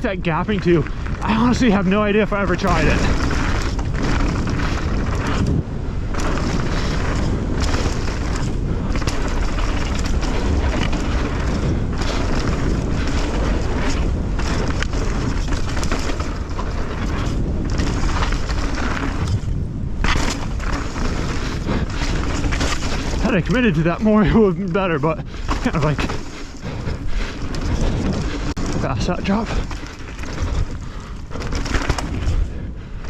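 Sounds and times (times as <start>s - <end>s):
bike knocks and rattles: 0.0s - 33.0s
tyres rolling over dirt: 0.0s - 33.0s
wind rumbling on microphone: 0.0s - 33.0s.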